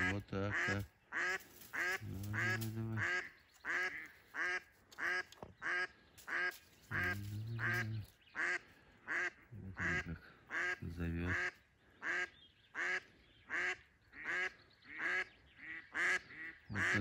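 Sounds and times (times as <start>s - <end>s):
duck quacking: 0.0s - 17.0s.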